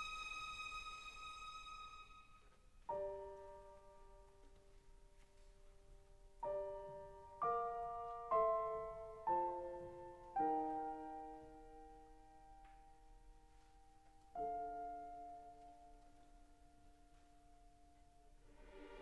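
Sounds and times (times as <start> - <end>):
slow piano chords: 2.3 - 19.0.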